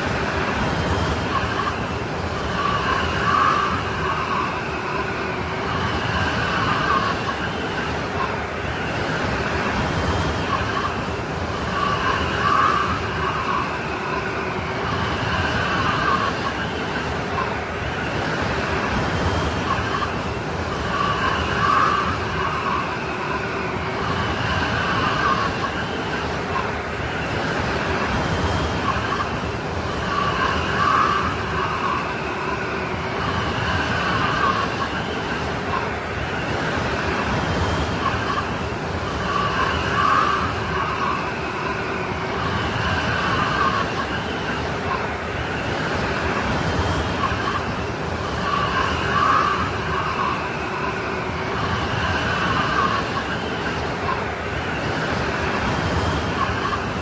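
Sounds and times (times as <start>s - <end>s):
howling storm wind: 0.0s - 57.0s.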